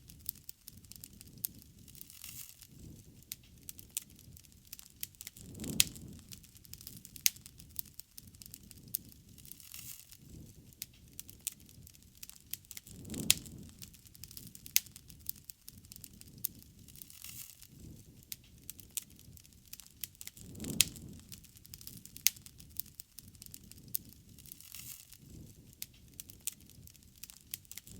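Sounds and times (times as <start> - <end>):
bonfire crackling and popping: 0.0 - 27.9.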